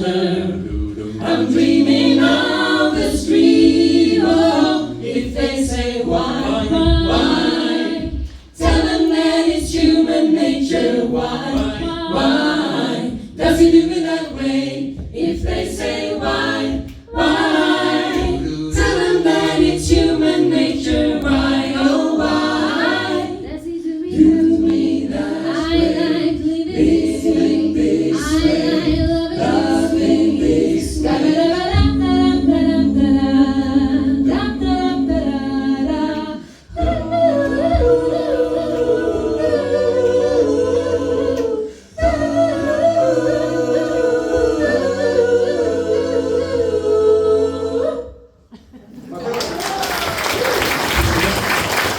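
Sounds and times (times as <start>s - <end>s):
a cappella group singing harmonies: 0.0s - 49.8s.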